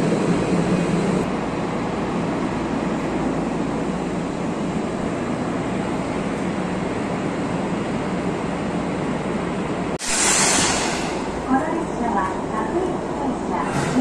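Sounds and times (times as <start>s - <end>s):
trains humming at platform: 0.0s - 14.0s.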